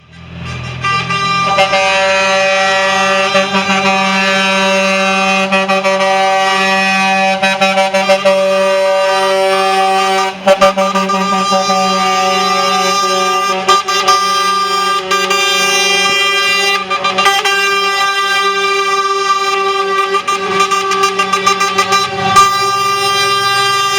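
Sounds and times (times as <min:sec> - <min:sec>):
truck air horn: 0:00.0 - 0:23.9.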